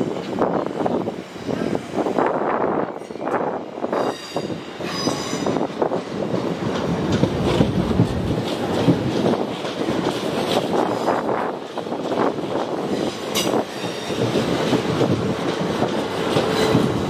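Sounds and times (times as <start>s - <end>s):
train wheels clattering: 3.1s - 17.0s.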